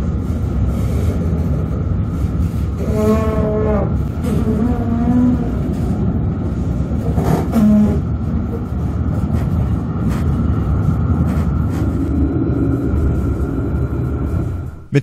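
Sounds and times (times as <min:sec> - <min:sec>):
tram wheels rumbling on rails: 0:00.0 - 0:15.0
tram whine: 0:00.0 - 0:15.0.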